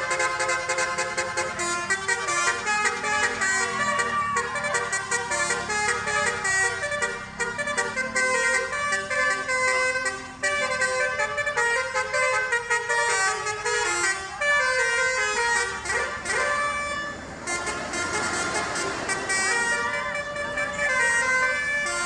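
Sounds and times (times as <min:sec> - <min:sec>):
multi-tone musical vehicle horn: 0:00.0 - 0:22.0.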